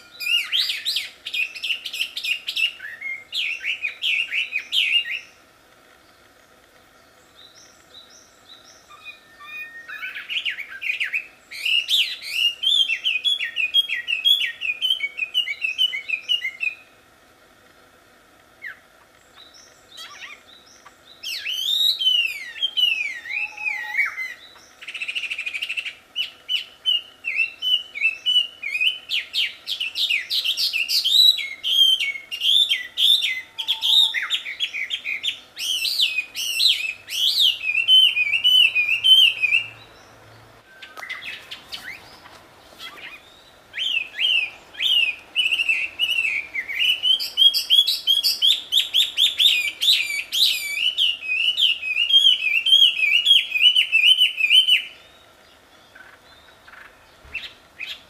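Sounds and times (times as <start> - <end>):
bird singing whistled phrases: 0.0 - 5.4, 7.4 - 16.8, 19.4 - 39.8, 40.6 - 42.1, 42.8 - 55.3.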